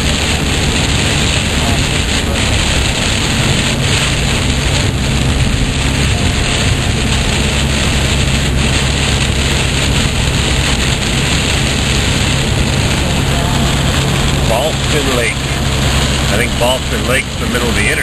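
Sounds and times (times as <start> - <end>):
car and tyres droning: 0.0 - 18.0
heavy rain on car roof: 0.0 - 18.0.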